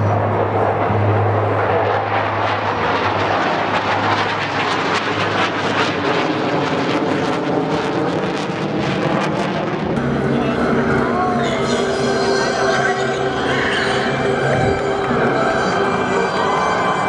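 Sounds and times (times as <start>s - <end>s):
jets flying overhead: 0.0s - 17.0s.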